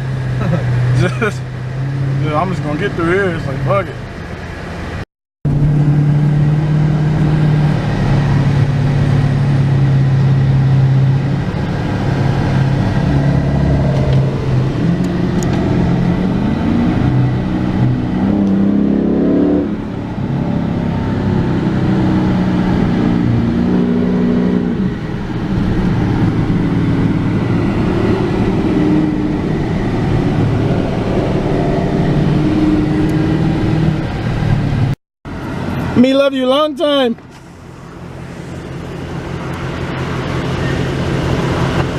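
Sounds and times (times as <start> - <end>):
car engine accelerating: 0.0 - 36.2, 37.2 - 41.9.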